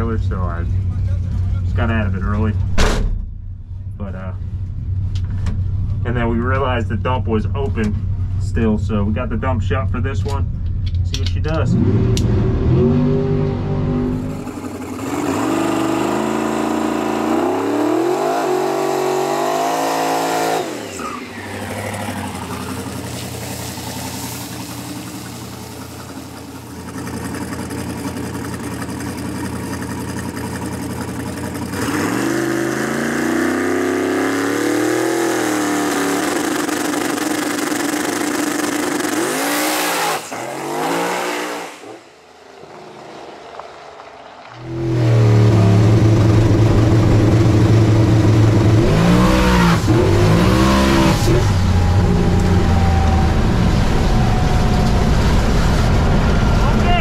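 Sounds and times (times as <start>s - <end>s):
drag car engine revving: 0.0s - 57.0s.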